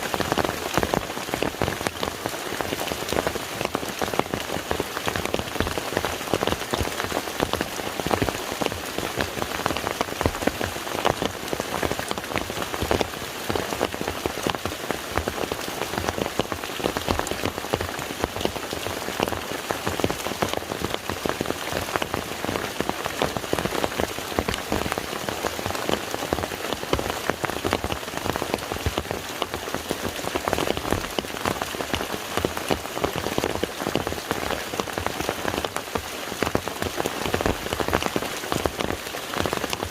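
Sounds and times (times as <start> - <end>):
rain falling on lake: 0.0 - 39.9.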